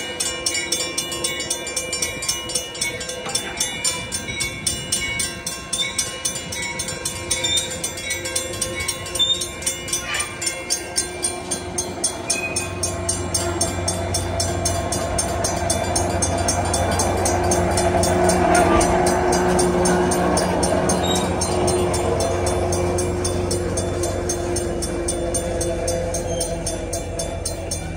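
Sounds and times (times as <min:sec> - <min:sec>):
crossing signal bell ringing: 0:00.0 - 0:27.9
train engine drone: 0:00.0 - 0:27.9.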